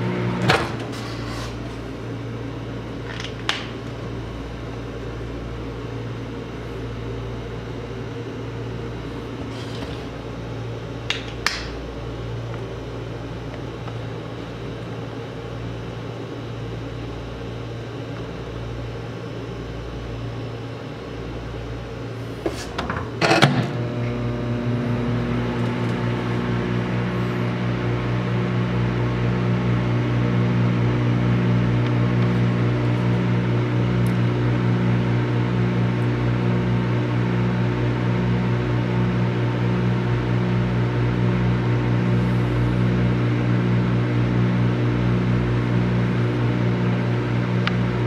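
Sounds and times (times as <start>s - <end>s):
microwave oven humming: 0.0s - 48.0s.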